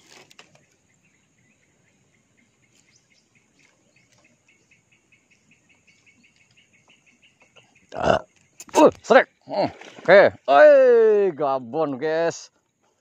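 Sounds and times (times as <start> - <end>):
insect chirping faintly: 0.0 - 13.0.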